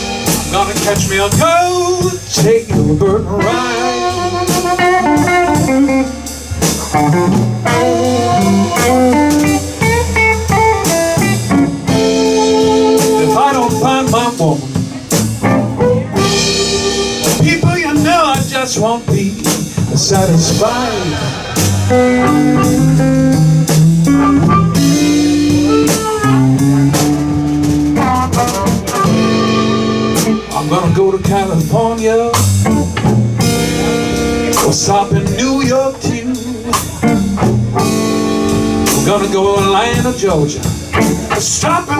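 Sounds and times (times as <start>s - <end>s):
bass line: 0.0s - 41.9s
drums: 0.0s - 41.9s
electric guitar bending notes: 3.3s - 18.6s, 19.9s - 41.9s.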